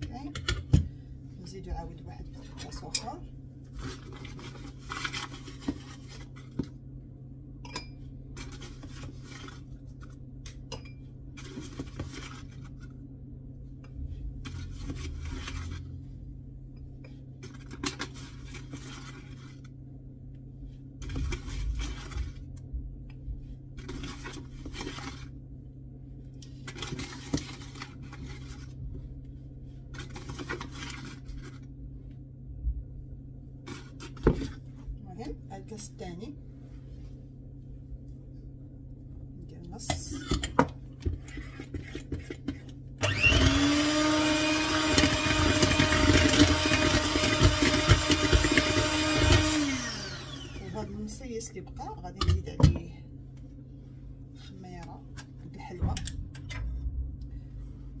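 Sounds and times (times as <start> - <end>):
steady low hum: 0.0 - 43.0, 46.5 - 58.0.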